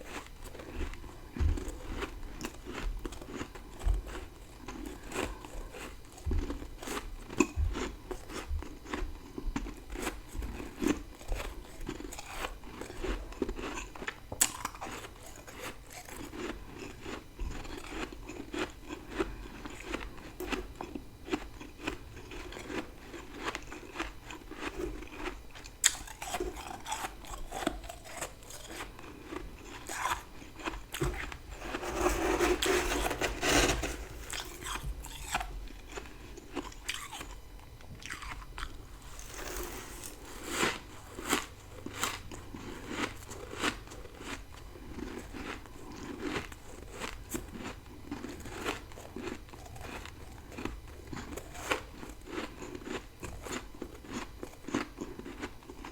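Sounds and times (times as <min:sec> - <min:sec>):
crunching frost being chewed: 0:00.0 - 0:55.9.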